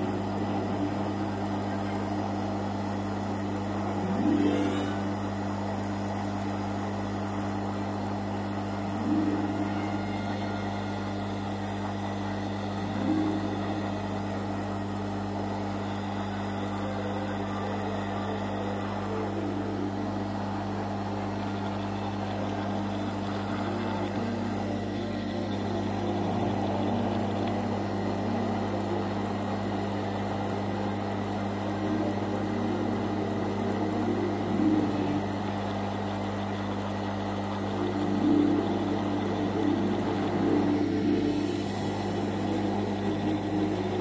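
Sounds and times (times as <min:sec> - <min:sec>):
electric hum and fan whir: 0:00.0 - 0:44.0.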